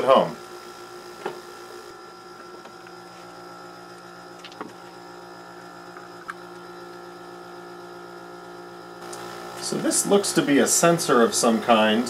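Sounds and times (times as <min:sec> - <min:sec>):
compressor electrical hum: 0:00.0 - 0:12.0.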